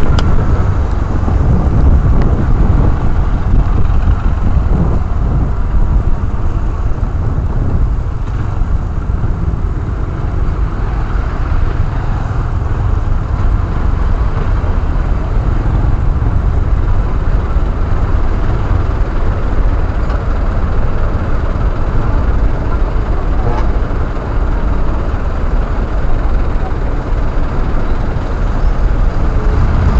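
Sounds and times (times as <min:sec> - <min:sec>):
motorcycle engine: 0:00.0 - 0:29.9
road noise: 0:00.0 - 0:29.9
wind on microphone: 0:00.0 - 0:29.9.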